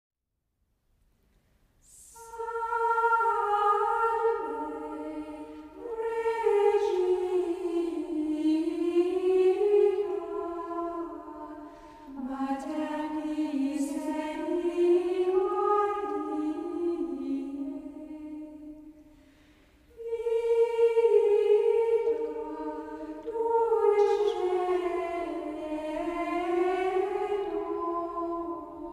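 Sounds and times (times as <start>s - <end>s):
unison chant singing: 1.8s - 28.9s.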